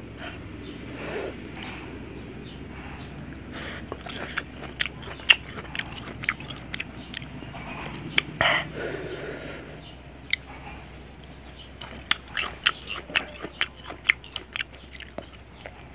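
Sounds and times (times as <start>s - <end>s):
crunchy chewing: 0.0s - 15.9s.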